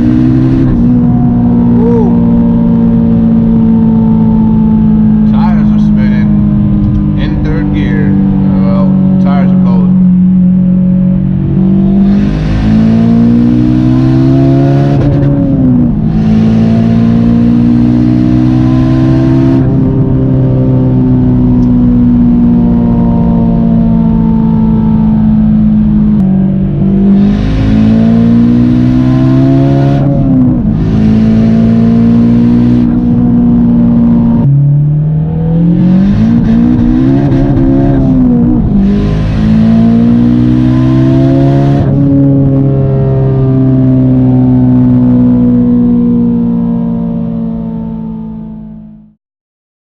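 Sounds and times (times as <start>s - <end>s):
car engine accelerating through gears: 0.0s - 49.2s.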